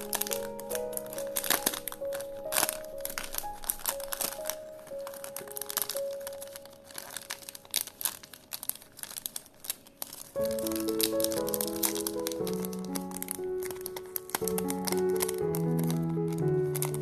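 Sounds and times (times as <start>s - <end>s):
instrumental background music: 0.0s - 7.6s, 10.4s - 17.0s
plastic bag crinkling: 0.0s - 17.0s.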